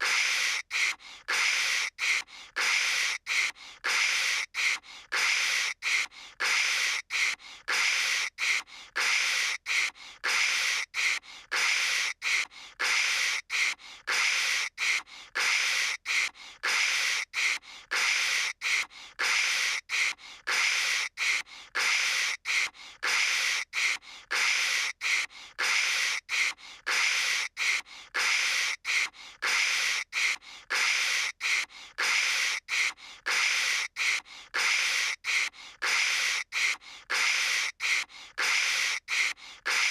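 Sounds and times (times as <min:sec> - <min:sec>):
person imitating static hiss: 0:00.0 - 0:39.9.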